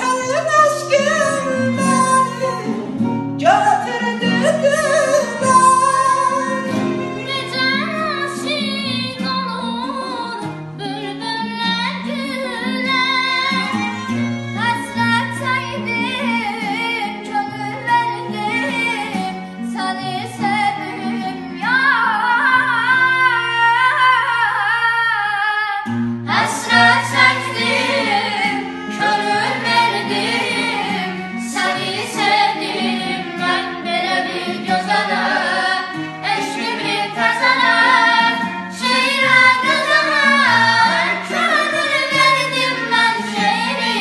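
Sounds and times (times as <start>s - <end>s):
girl singing: 0.0s - 2.7s, 4.4s - 44.0s
children singing a folk song: 4.1s - 23.5s, 26.3s - 44.0s.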